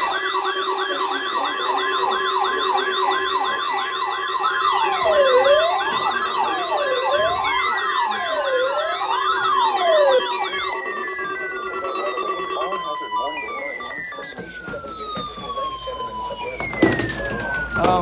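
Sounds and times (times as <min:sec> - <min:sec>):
fast electronic warble: 0:00.0 - 0:18.0
long falling electronic glides: 0:00.0 - 0:18.0
slow wailing siren: 0:00.0 - 0:18.0
steady alert tone: 0:00.0 - 0:18.0.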